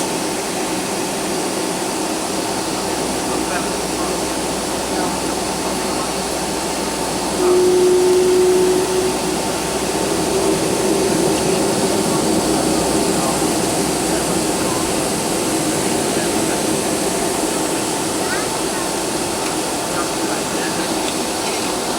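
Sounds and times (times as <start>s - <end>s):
jet cabin rushing hum: 0.0s - 21.9s
steady droning tone: 3.0s - 20.8s.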